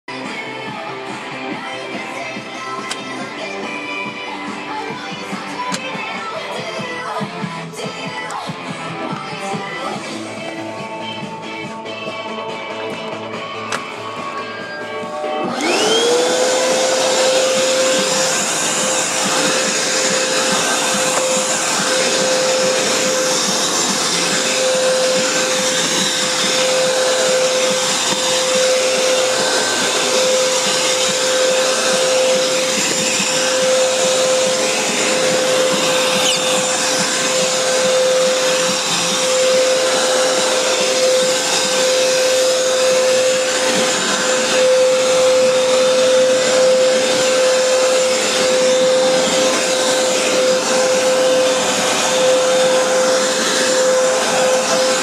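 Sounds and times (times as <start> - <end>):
vacuum cleaner running: 0.1 - 55.0.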